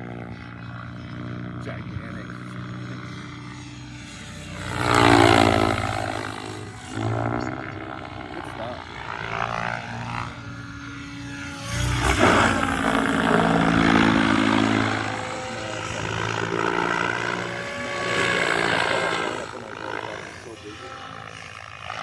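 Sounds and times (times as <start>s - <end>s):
model helicopter rotor and motor: 0.0s - 22.0s.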